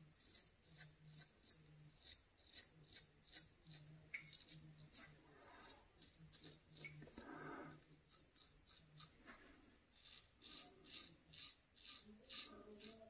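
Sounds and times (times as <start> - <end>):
razor scraping stubble: 0.0 - 13.0.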